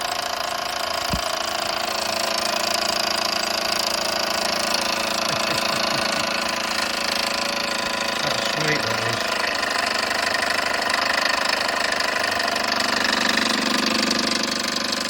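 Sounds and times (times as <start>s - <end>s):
toy steam engine chuffing: 0.0s - 15.0s.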